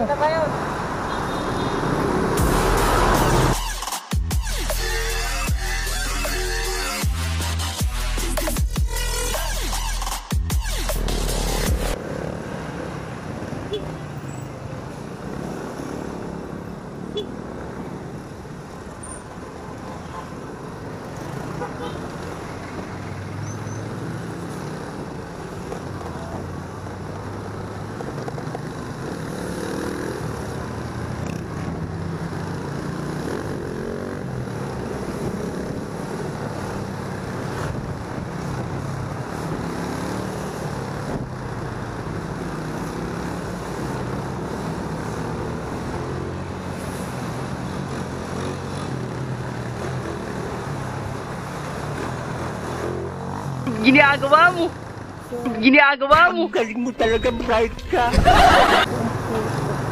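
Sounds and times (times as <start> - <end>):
passing vehicles: 0.0 - 3.8, 4.4 - 59.9
road and wind noise: 0.0 - 59.9.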